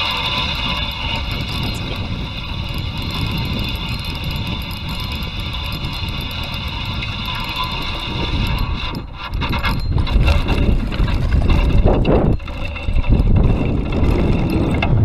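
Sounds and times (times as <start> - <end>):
fishing reel winding: 0.0 - 14.9
wind rumbling on microphone: 0.0 - 15.0.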